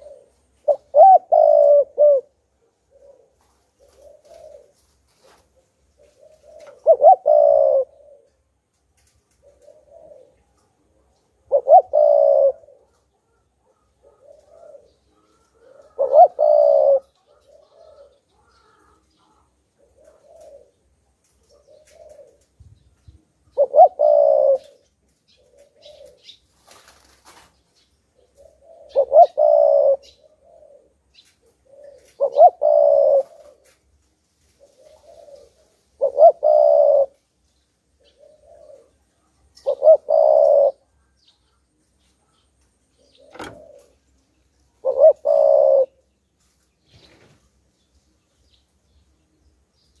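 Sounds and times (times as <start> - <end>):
dove cooing: 0.0 - 8.6, 9.3 - 27.5, 28.2 - 33.9, 34.5 - 37.2, 38.0 - 41.2, 42.2 - 44.1, 44.7 - 46.0.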